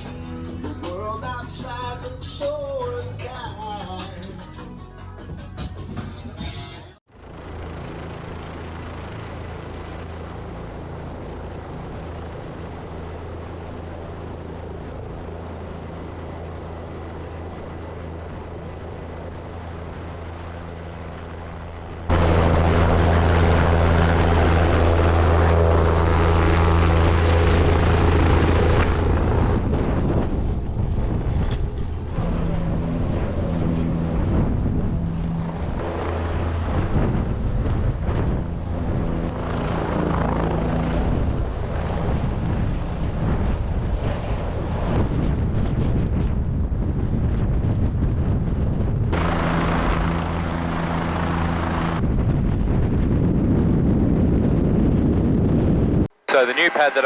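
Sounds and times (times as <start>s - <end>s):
helicopter rotor and engine hum: 0.0s - 6.0s, 7.0s - 57.0s.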